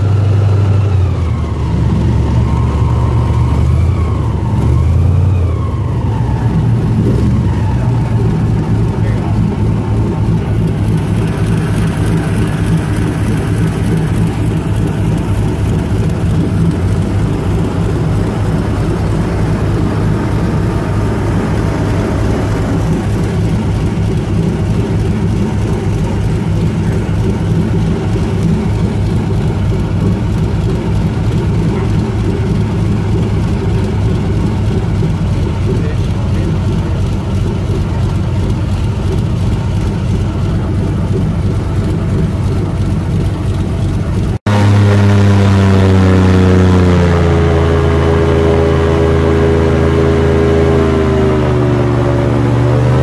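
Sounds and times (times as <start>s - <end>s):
airboat engine and propeller drone: 0.0s - 53.0s.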